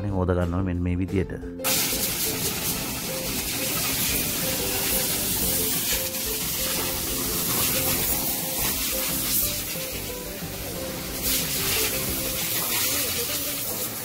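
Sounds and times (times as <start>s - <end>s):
background music: 0.0s - 14.0s
car wash spray hiss: 1.7s - 14.0s.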